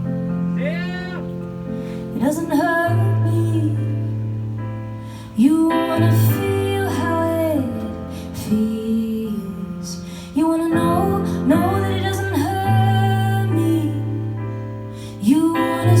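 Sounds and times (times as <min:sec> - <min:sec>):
guitar: 0:00.0 - 0:16.0
woman singing: 0:02.0 - 0:04.4, 0:05.2 - 0:16.0.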